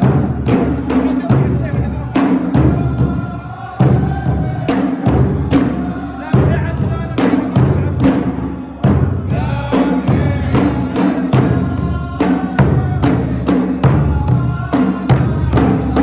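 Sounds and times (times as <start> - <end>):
drums driving beat: 0.0 - 16.0
men singing in chorus: 0.0 - 16.0.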